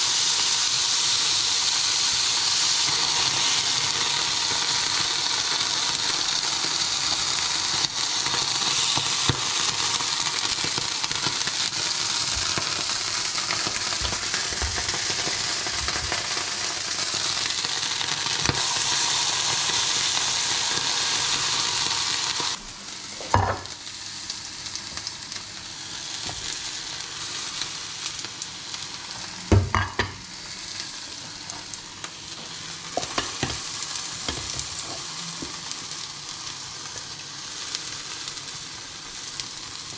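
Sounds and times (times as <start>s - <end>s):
oil sizzling in a frying pan: 0.0s - 39.9s.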